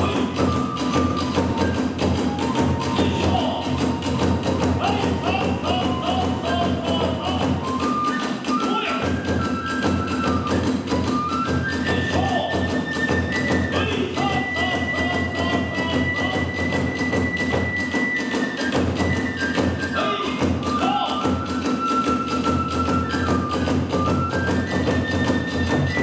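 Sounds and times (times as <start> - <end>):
bamboo flute high notes: 0.0 - 26.0
taiko drums beating: 0.0 - 26.0.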